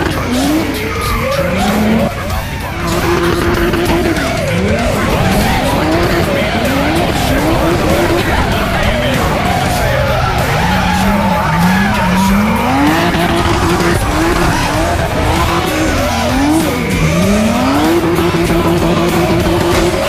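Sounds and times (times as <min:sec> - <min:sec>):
car engine revving: 0:00.0 - 0:20.0
tyres squealing: 0:00.0 - 0:20.0.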